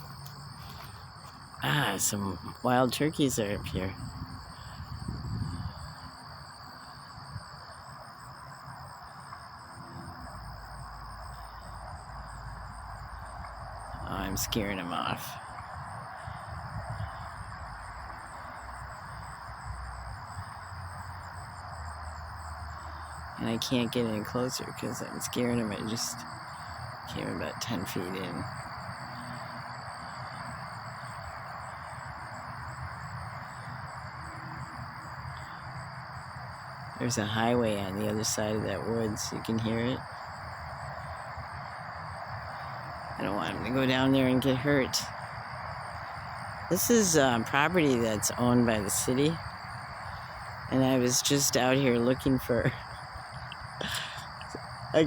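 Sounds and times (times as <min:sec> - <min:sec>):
distant highway traffic: 0:00.0 - 0:55.0
faint pulsing insect trill: 0:00.0 - 0:55.0
insect trilling: 0:00.0 - 0:55.0.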